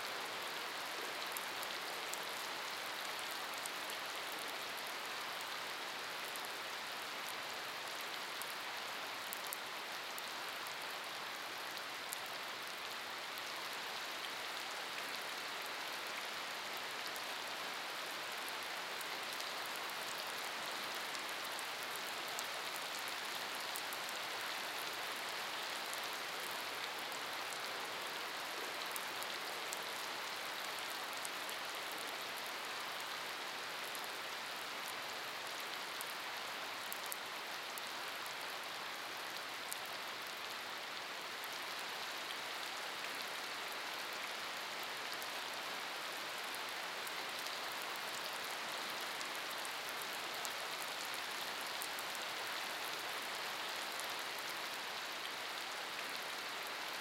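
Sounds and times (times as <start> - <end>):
steady rain on wet pavement: 0.0 - 57.0.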